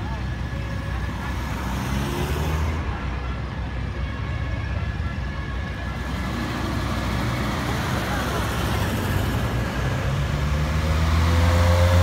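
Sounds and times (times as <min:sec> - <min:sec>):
car engines running slowly: 0:00.0 - 0:12.0.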